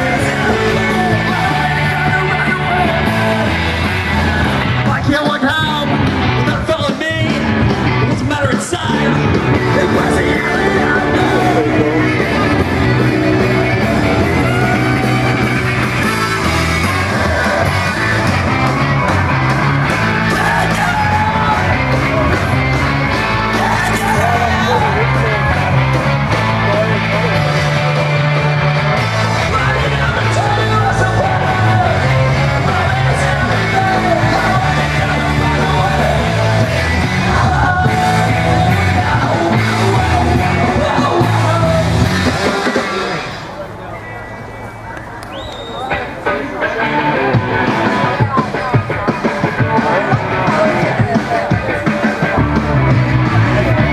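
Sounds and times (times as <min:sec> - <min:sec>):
person shouting and singing: 0:00.0 - 0:43.4
bass line: 0:00.0 - 0:44.8, 0:45.8 - 0:53.9
drums: 0:00.0 - 0:53.9.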